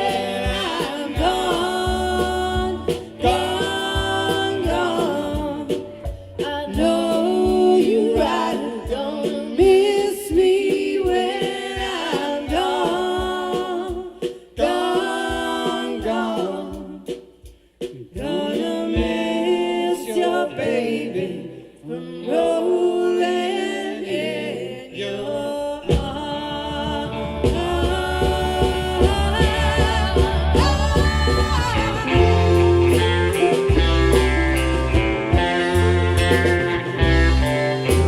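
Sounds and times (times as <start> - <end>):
voices singing in harmony: 0.0 - 38.0.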